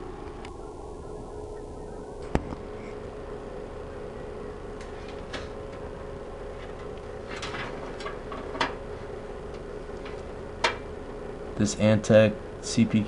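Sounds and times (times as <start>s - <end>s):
steady computer hum: 0.0s - 13.0s.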